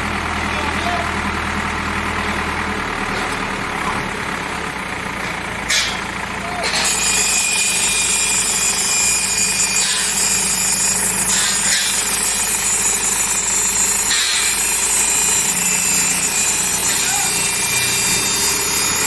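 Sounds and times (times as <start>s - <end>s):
diesel engine rattling: 0.0s - 19.0s.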